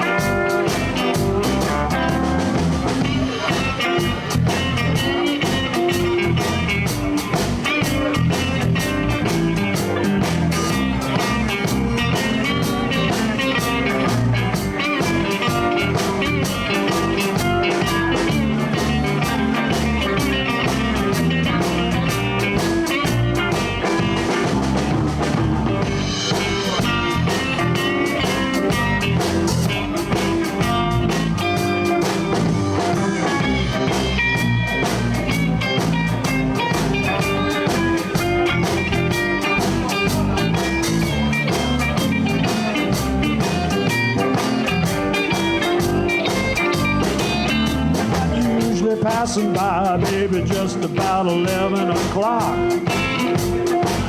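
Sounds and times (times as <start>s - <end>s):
bass: 0.0s - 54.0s
drum beat with cymbals: 0.0s - 54.0s
guitar soloing: 0.0s - 54.0s.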